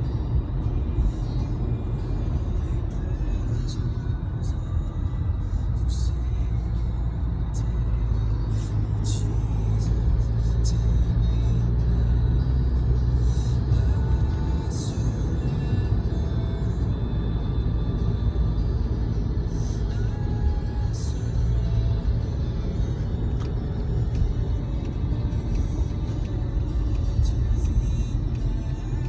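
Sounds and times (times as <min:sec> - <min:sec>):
car driving rumble: 0:00.0 - 0:29.0
music playing: 0:00.0 - 0:29.0.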